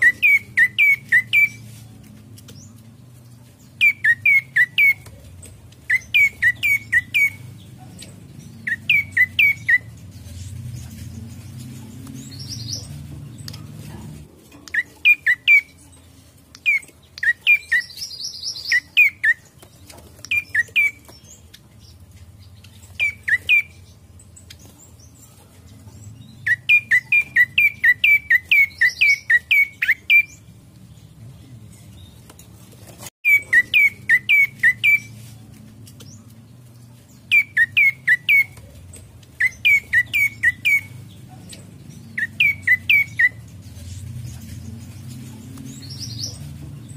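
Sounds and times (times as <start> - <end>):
bird chirping: 0.0 - 46.9.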